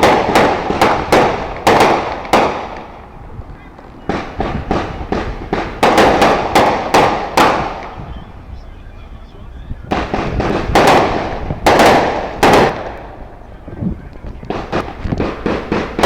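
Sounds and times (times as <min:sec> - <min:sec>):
firework bangs: 0:00.0 - 0:16.0.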